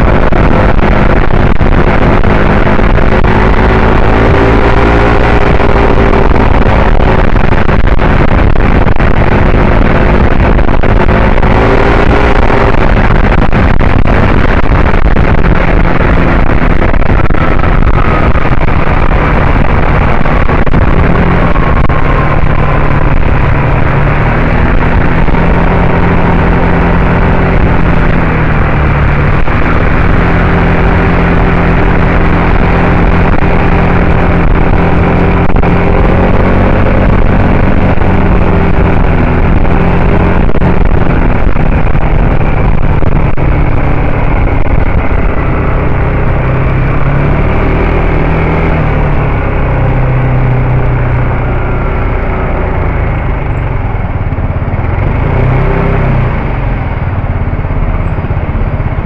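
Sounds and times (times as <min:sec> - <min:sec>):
road noise: 0:00.0 - 0:59.0
scooter engine running: 0:00.0 - 0:59.0.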